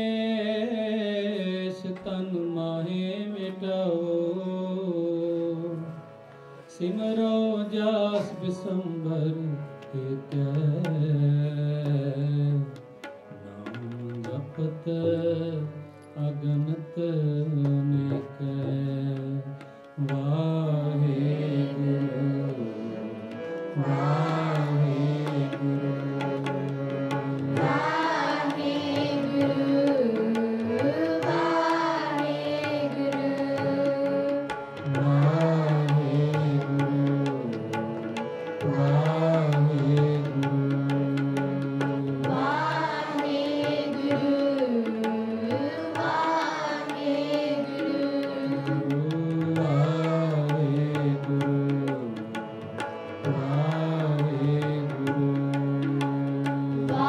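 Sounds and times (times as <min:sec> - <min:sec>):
harmonium: 0:00.0 - 0:57.0
man singing devotional verses: 0:00.0 - 0:57.0
tabla: 0:00.0 - 0:57.0.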